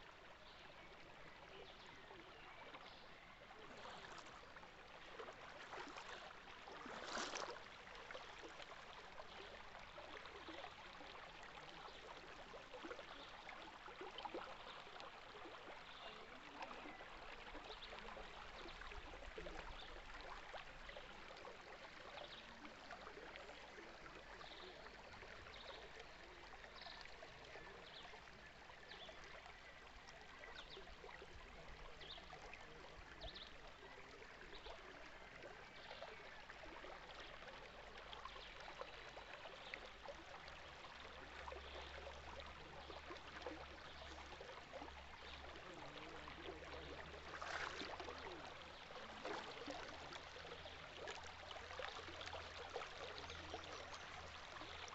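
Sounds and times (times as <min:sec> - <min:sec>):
stream water trickling: 0:00.0 - 0:54.9.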